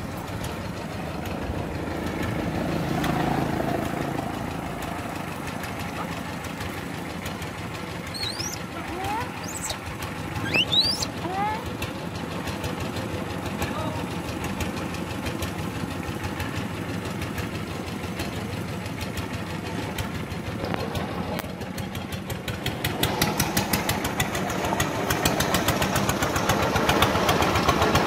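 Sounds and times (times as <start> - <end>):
engine running with fast pulse: 0.0 - 28.0.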